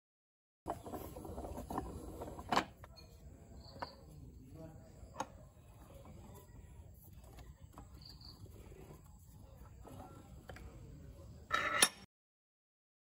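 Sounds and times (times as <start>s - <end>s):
faint outdoor background: 0.7s - 12.1s.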